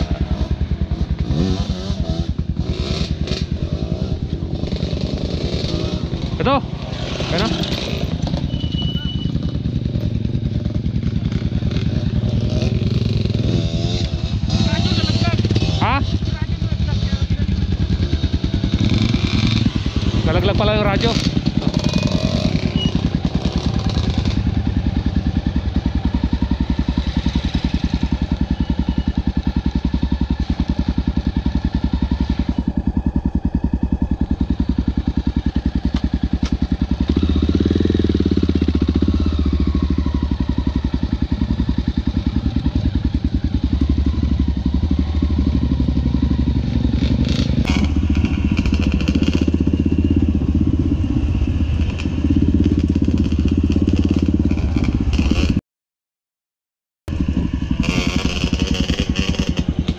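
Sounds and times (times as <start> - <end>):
dirt bike engine running: 0.0 - 55.6, 57.1 - 59.9.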